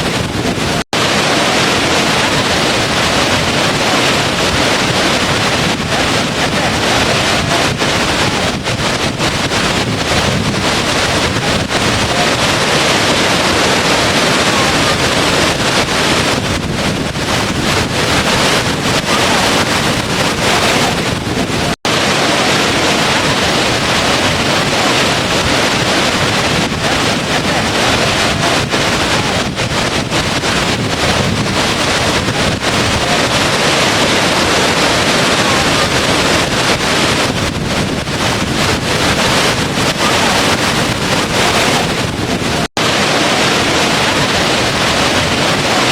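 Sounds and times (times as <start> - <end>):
falling water rushing: 0.0 - 45.9.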